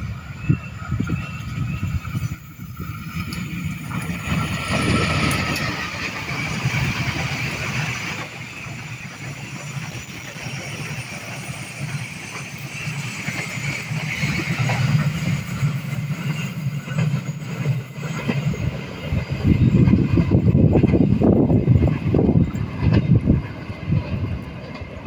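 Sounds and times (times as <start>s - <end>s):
train engine and wheels rumbling: 0.0s - 25.0s.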